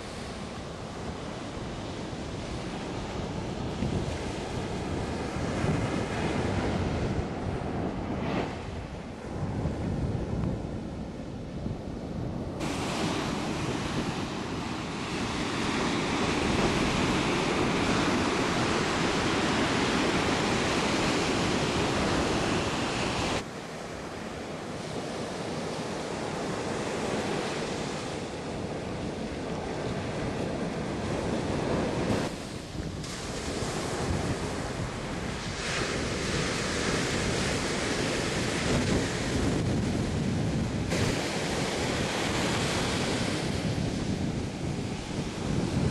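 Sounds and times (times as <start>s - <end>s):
ocean surf breaking: 0.0s - 45.9s
wind buffeting microphone: 0.0s - 45.9s.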